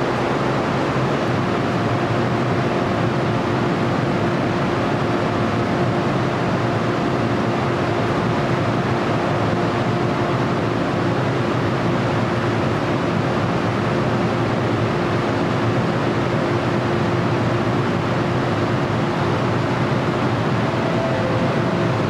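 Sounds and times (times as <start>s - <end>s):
train equipment hum: 0.0s - 22.0s.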